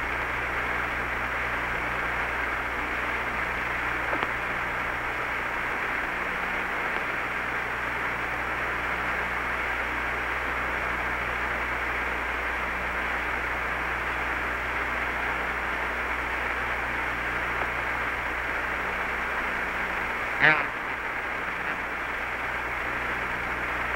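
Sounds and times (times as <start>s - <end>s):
low steady hum: 0.0s - 23.9s
radio channel hiss: 0.0s - 23.9s.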